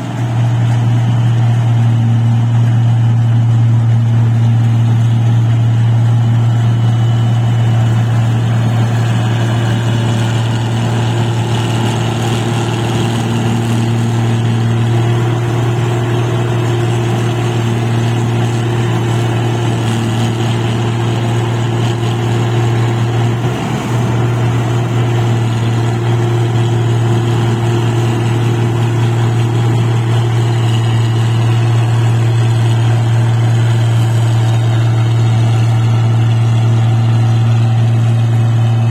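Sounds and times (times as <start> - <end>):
machine engine humming: 0.0 - 38.9.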